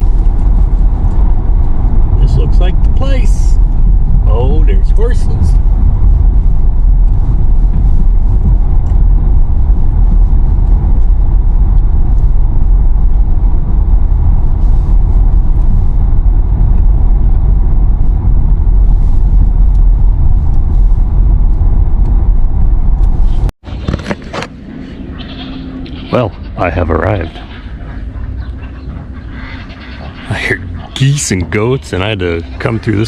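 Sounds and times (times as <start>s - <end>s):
car driving on dirt road: 0.0s - 33.0s.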